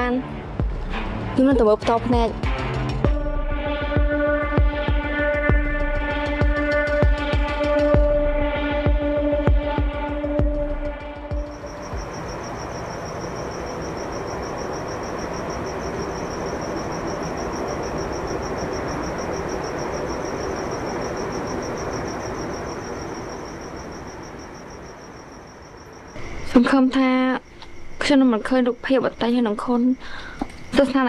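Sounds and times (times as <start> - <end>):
crickets chirping: 0.0 - 31.0
night ambience hiss: 0.0 - 31.0.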